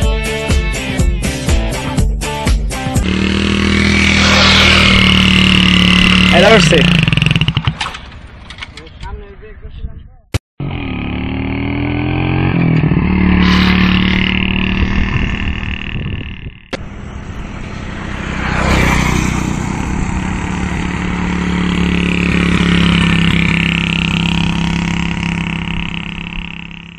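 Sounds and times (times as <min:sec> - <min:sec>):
motorcycle engine running: 0:02.5 - 0:08.0, 0:10.6 - 0:26.9.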